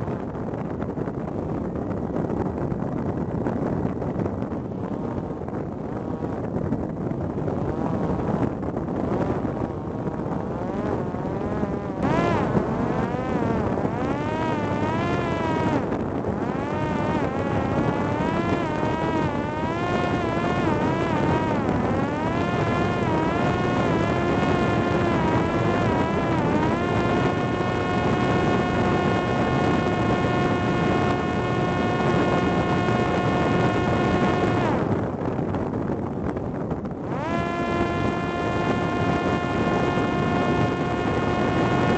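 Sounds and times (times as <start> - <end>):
drone motor and propeller whining: 0.0 - 41.9
rushing wind: 0.0 - 41.9.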